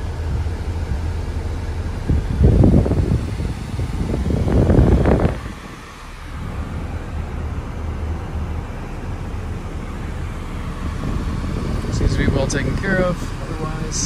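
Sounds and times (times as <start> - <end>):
car climate fan blowing: 0.0 - 14.0.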